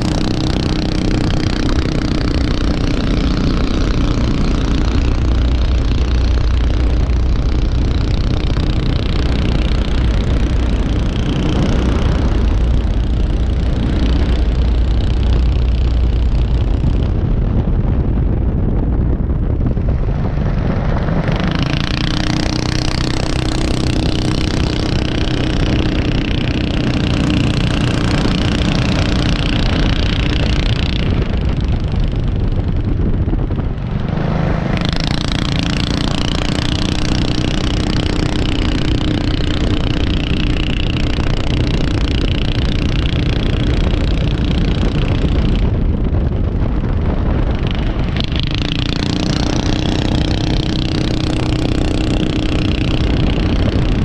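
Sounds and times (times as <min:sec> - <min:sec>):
race car engine running hard: 0:00.0 - 0:54.0
wind and road noise: 0:00.0 - 0:54.0.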